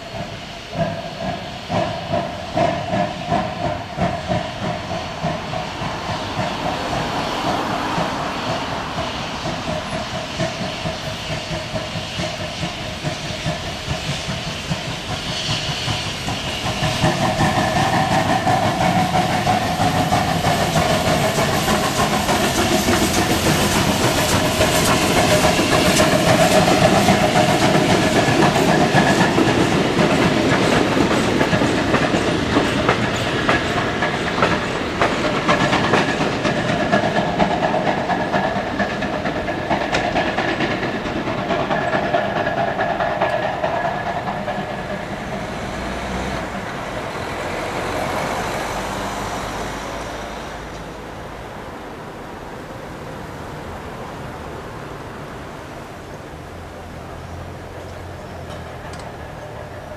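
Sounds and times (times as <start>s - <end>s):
train wheels clicking over rail joints: 0.0s - 51.8s, 53.2s - 59.9s
steam hissing: 0.0s - 59.9s.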